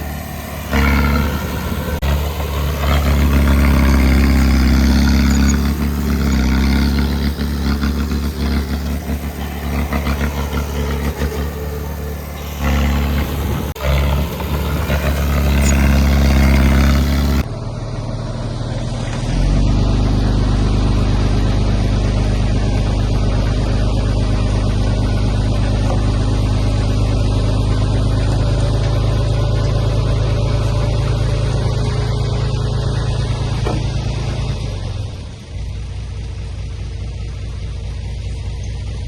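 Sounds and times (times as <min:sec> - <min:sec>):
heavy machine engine under load: 0:00.0 - 0:39.0.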